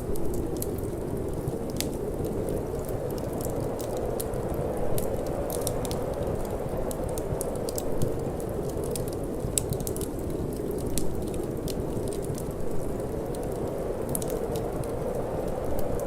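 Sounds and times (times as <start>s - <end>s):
fire crackling and popping: 0.0s - 16.0s
low rush of wind: 0.0s - 16.0s.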